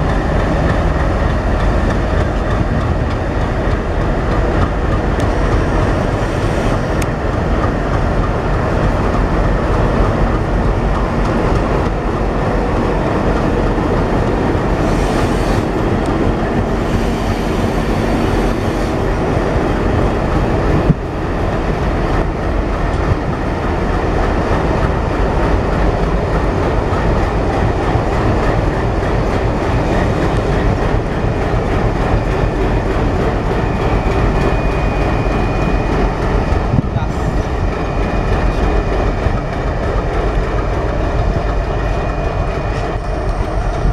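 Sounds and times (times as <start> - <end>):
train wheels clattering on track: 0.0 - 43.9.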